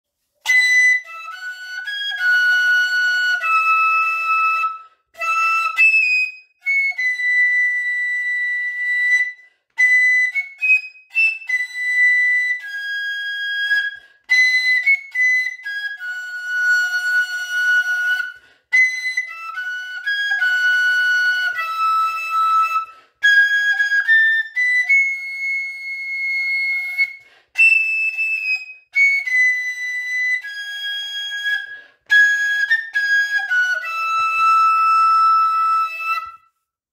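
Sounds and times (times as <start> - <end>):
tin whistle melody: 0.4 - 36.6.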